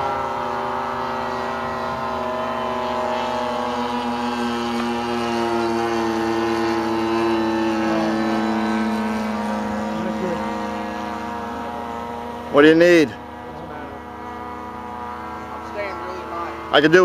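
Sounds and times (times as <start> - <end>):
model plane engine drone: 0.0 - 17.0.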